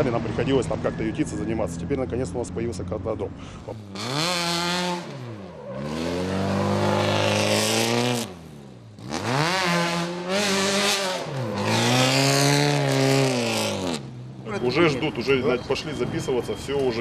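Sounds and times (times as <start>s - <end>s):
buggy engine revving: 0.0s - 15.7s.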